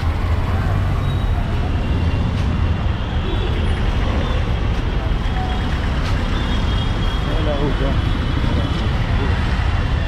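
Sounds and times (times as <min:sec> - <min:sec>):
traffic engines rumbling: 0:00.0 - 0:10.0.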